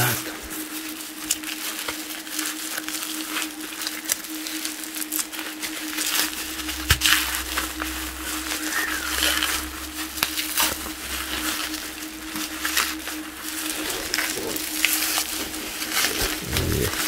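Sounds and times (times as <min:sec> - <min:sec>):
packing material crinkling: 0:00.5 - 0:17.0.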